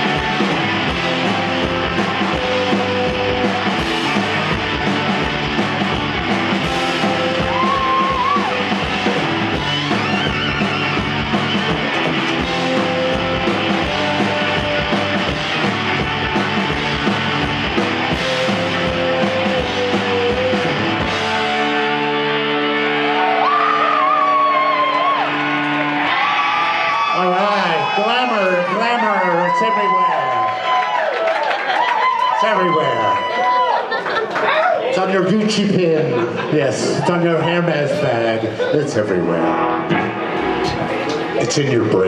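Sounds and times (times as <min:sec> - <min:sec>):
live rock band playing: 0:00.0 - 0:29.4, 0:35.4 - 0:42.0
drums: 0:00.0 - 0:34.6, 0:35.2 - 0:42.0.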